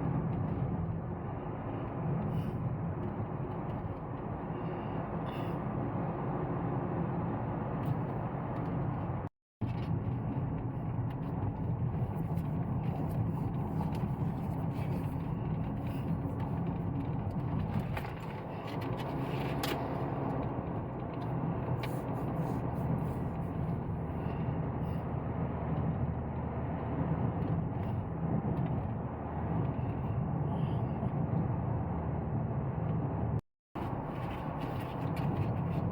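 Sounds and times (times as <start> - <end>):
car engine and tyres droning: 0.0 - 35.9.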